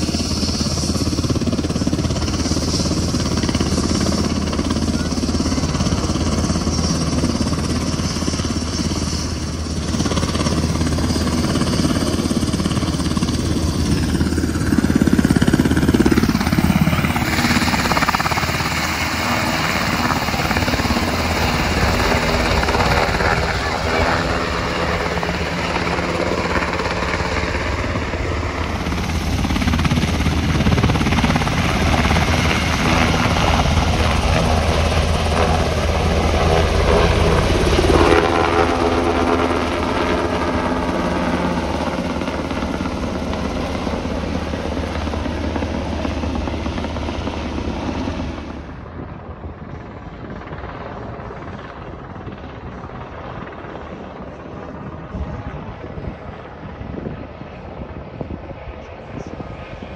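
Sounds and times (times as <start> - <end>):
helicopter flying past: 0.0 - 59.9.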